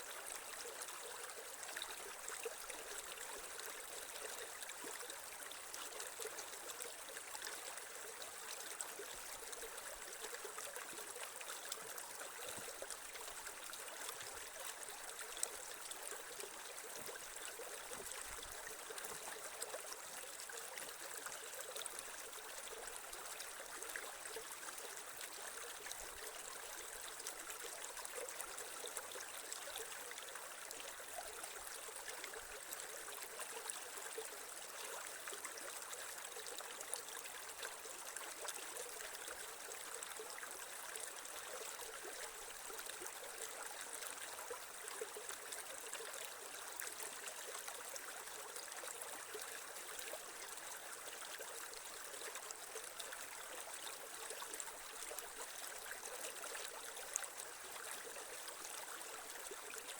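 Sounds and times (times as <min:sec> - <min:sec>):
creek water babbling over stones: 0:00.0 - 0:59.9.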